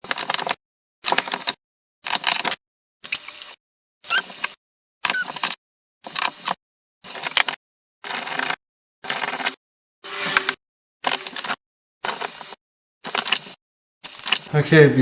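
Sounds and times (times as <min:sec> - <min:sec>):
metal parts clicking and scraping: 0:00.0 - 0:03.5, 0:04.1 - 0:09.6, 0:10.3 - 0:14.5.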